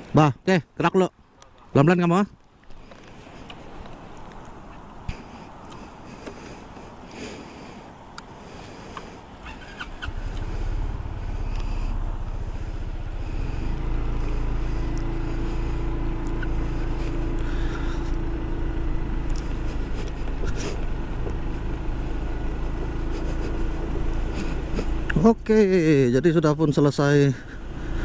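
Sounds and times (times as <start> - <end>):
scooter engine droning: 4.6 - 28.0.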